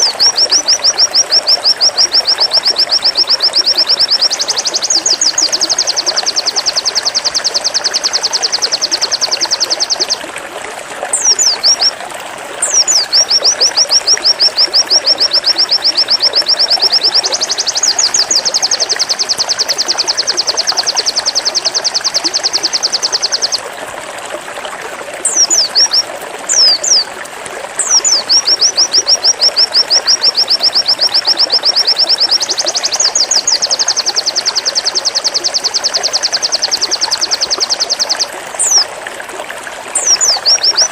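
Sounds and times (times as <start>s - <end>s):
bird trilling rapid high notes: 0.0s - 10.2s, 12.6s - 23.6s, 25.3s - 27.0s, 27.8s - 38.8s.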